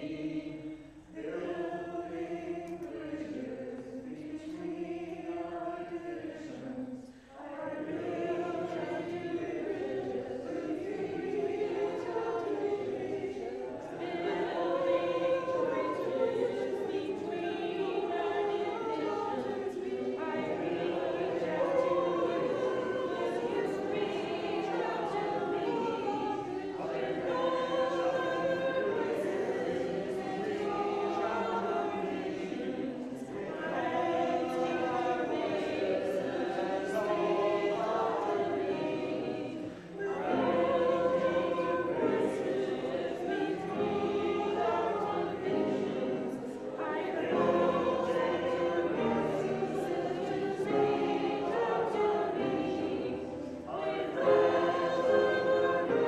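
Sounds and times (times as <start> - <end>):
congregation singing: 0.0 - 56.0.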